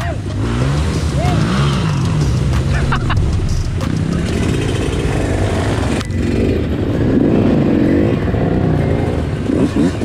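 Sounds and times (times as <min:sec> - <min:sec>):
dirt bike engine revving: 0:00.2 - 0:10.0.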